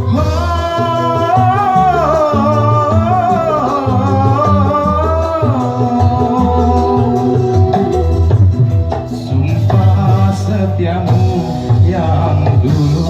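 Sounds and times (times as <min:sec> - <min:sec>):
band playing slow pop music: 0:00.0 - 0:13.0.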